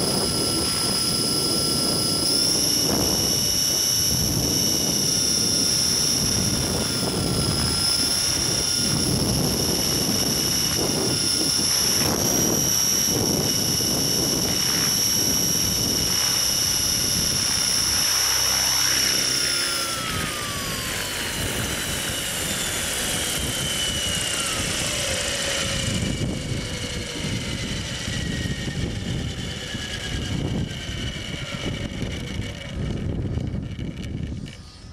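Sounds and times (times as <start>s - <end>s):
electric motor whine: 0.0s - 34.9s
rotor wind rumble: 0.0s - 34.9s.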